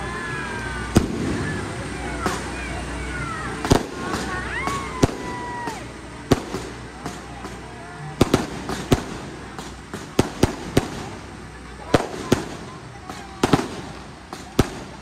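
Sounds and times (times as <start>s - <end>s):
fireworks bangs: 0.5s - 2.9s, 3.6s - 15.0s.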